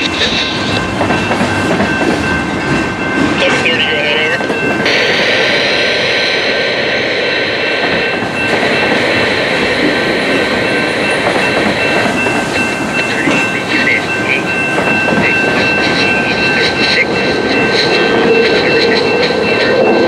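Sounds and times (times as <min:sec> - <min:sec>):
steady high-pitched tone: 0:00.0 - 0:20.0
train wheels on rails: 0:00.0 - 0:20.0.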